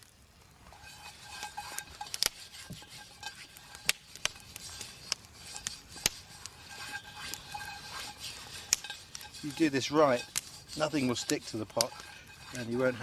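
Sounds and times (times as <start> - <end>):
hand smearing oil in pot: 0.7 - 13.0.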